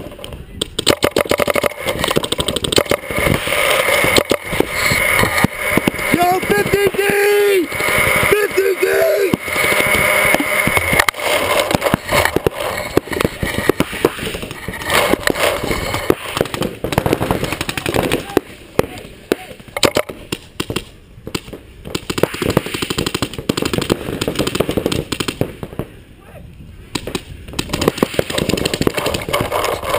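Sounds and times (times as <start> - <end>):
paintball markers popping: 0.0 - 8.3, 9.3 - 25.4, 27.0 - 29.9
paintballs striking inflatable bunker: 0.0 - 8.4, 9.2 - 25.9, 27.0 - 29.8.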